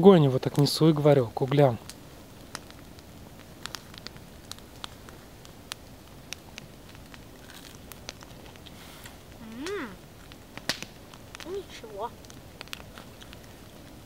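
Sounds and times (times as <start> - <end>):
campfire crackling: 0.0 - 14.0
sharp pops of fire: 0.0 - 14.0.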